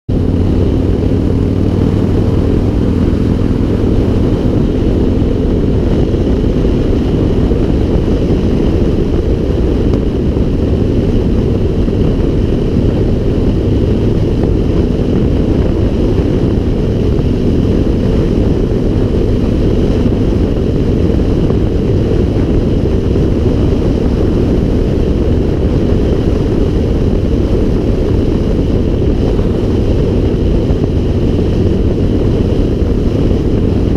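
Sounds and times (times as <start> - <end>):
wind rush on microphone: 0.1 - 33.9.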